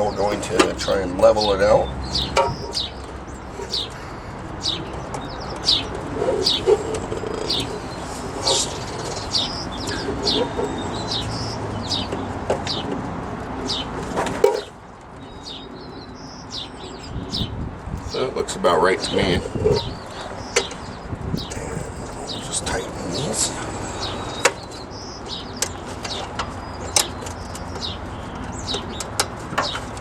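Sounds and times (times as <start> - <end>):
birds chirping: 0.0 - 30.0
rushing background noise: 0.0 - 30.0.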